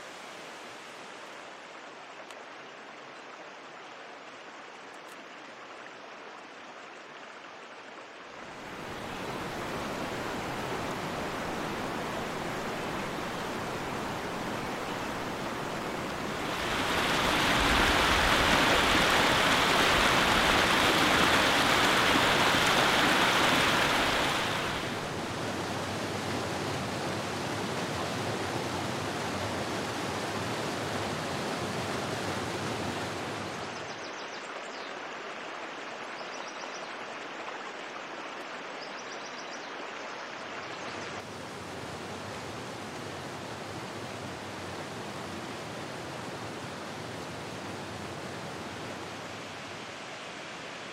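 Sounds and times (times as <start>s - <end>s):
stream rushing over rocks: 0.0s - 50.9s.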